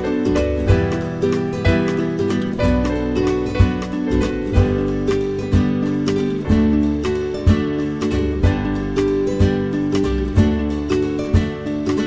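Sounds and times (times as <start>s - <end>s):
strummed acoustic guitar: 0.0s - 12.0s
strong low beat: 0.3s - 11.8s.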